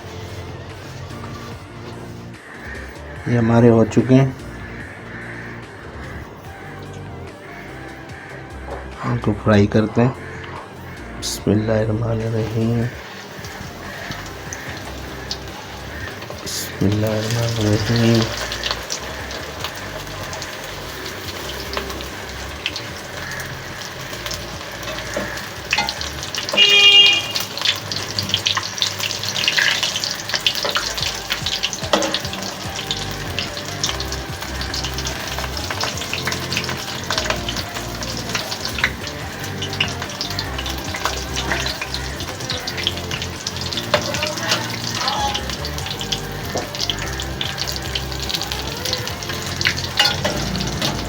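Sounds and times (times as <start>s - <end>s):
deep-frying sizzle: 0.0s - 5.4s, 12.1s - 51.0s
oil crackling and popping: 0.0s - 11.4s, 12.2s - 51.0s.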